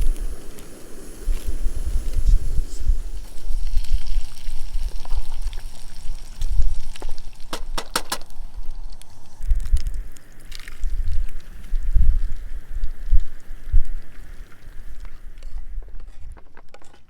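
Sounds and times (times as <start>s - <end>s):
wind buffeting microphone: 0.0s - 16.5s.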